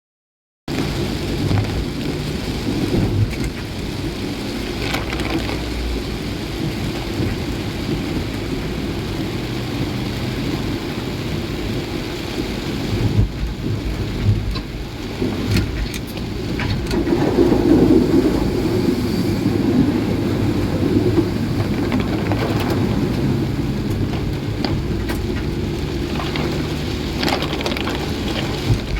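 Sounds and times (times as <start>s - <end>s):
heavy rain: 0.7s - 28.9s
vehicle driving on wet road: 0.7s - 28.9s.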